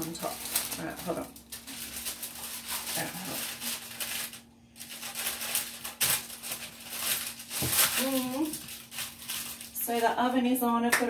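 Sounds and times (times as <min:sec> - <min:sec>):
rustling of handled objects: 0:00.0 - 0:10.4.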